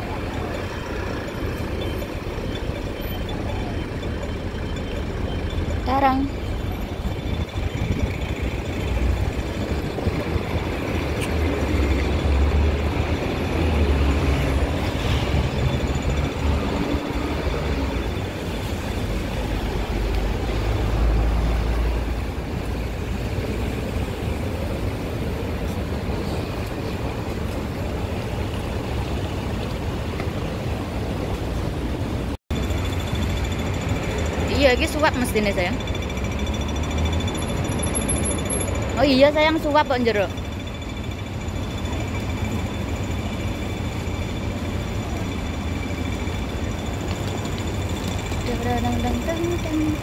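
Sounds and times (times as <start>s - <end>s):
passing road vehicles rumble: 0.0s - 50.0s.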